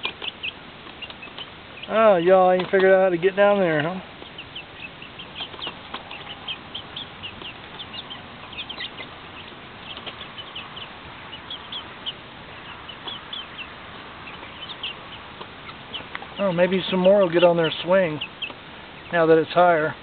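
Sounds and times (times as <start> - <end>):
young chickens peeping: 0.0 - 20.0.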